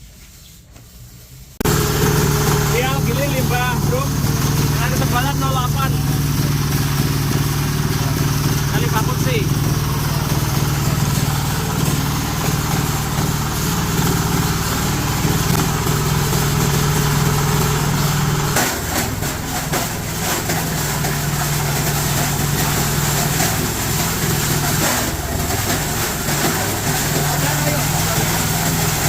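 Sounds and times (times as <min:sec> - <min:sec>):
crusher machine humming: 0:01.6 - 0:29.0.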